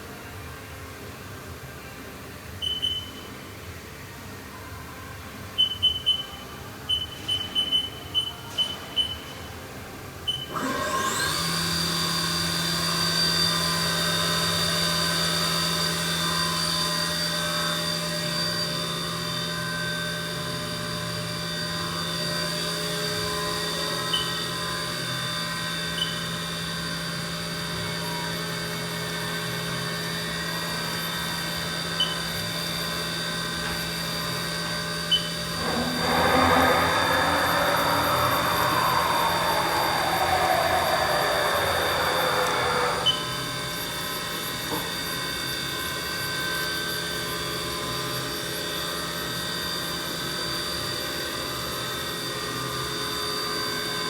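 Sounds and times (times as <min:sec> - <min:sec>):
mill spindle whine: 0:02.6 - 0:54.0.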